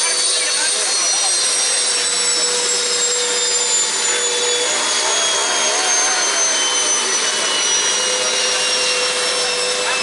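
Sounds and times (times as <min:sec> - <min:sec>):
leaf blower rushing air: 0:00.0 - 0:10.0.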